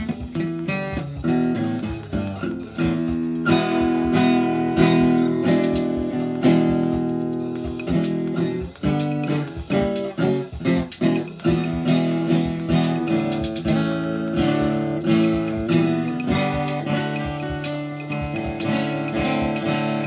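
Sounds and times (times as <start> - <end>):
guitar music: 0.0 - 20.0.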